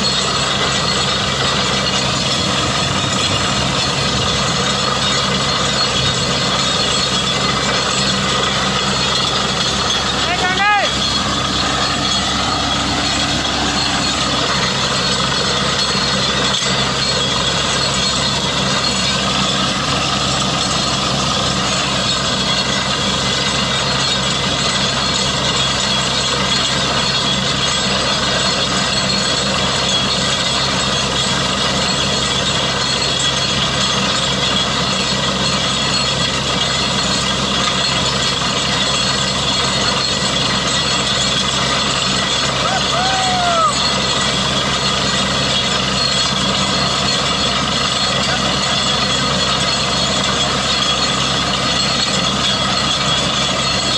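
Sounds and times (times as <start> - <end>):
drilling rig droning: 0.0 - 53.9.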